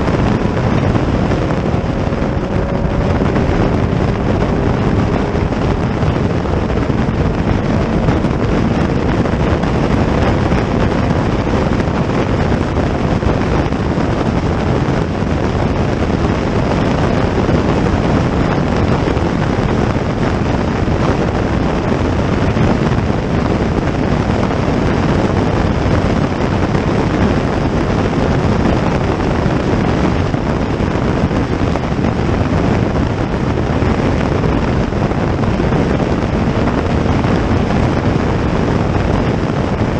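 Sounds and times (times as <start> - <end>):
vehicle running: 0.0 - 39.9
wind buffeting microphone: 0.0 - 39.9.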